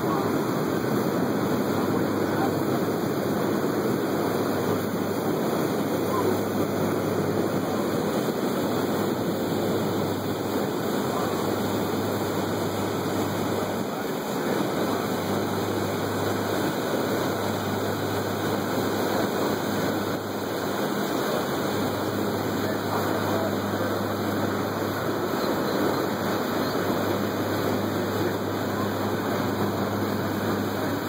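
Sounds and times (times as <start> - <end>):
boat engine hum: 0.0 - 31.0
wind and water rushing: 0.0 - 31.0.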